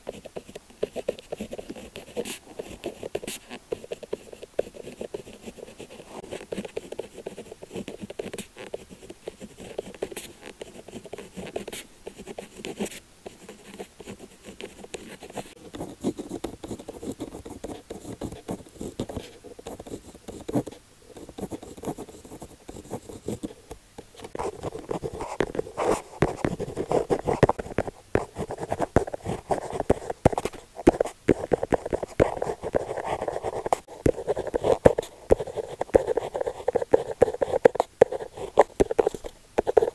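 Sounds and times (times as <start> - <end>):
pen scratching on paper: 0.0 - 23.6, 24.2 - 39.9.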